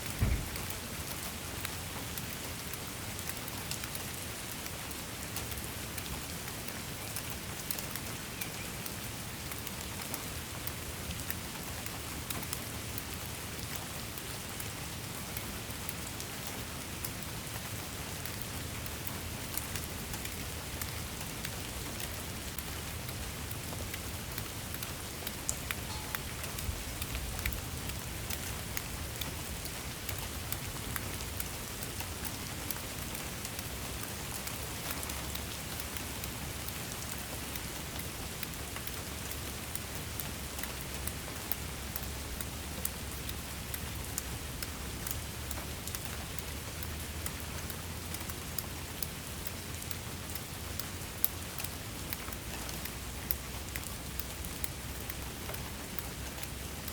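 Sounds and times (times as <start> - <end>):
raindrops ticking on a surface: 0.0 - 56.9
steady rainfall hiss: 0.0 - 56.9.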